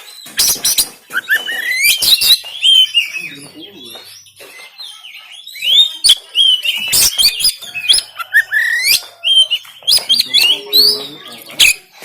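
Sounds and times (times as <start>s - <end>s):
bird singing whistles and chirps: 0.0s - 11.9s.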